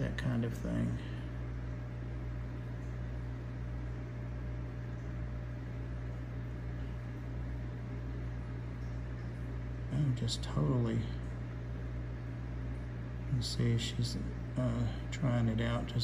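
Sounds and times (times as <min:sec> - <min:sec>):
aquarium equipment humming: 0:00.0 - 0:16.0.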